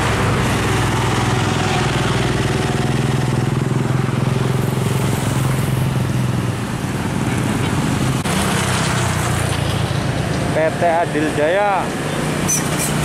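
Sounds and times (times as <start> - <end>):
motorcycle going by: 0.0 - 10.8
minibus passing: 0.0 - 13.0
truck diesel engine running: 0.0 - 13.0.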